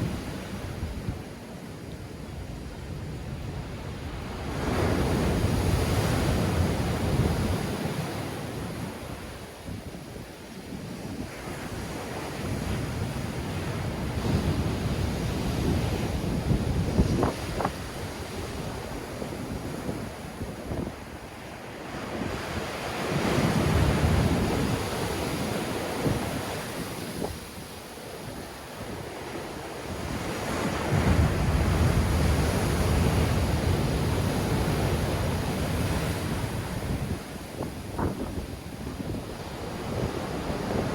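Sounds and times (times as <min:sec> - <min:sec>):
sea waves breaking on shore: 0:00.0 - 0:40.9
wind buffeting microphone: 0:02.3 - 0:40.9.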